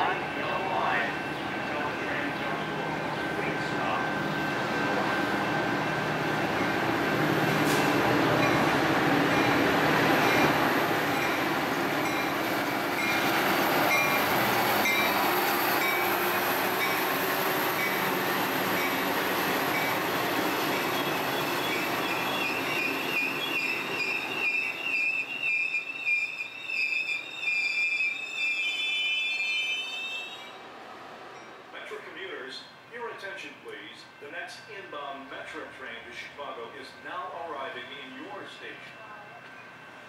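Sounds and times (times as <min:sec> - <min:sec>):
train wheels and brakes squealing: 0:00.0 - 0:31.6, 0:37.6 - 0:40.0
train rumbling along tracks: 0:00.0 - 0:40.0.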